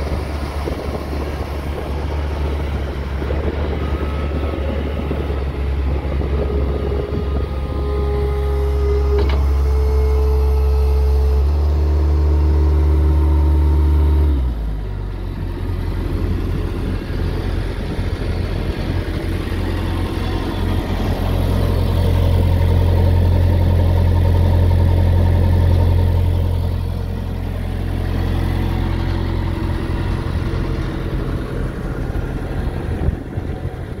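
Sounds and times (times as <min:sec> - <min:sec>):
skid steer diesel engine running: 0:00.0 - 0:34.0.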